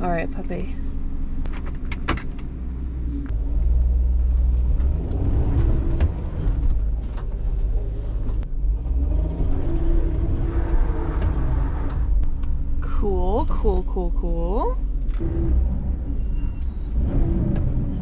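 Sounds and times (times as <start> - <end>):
van engine revving under load: 1.4 - 13.8, 14.4 - 18.0.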